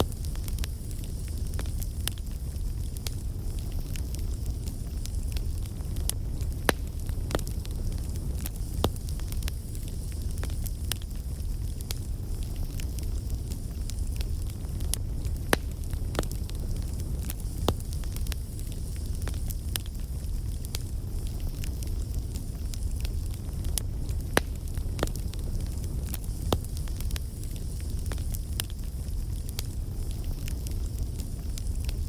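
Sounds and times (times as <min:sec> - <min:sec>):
bonfire crackling and popping: 0:00.0 - 0:32.0
low fire rumble: 0:00.0 - 0:32.0.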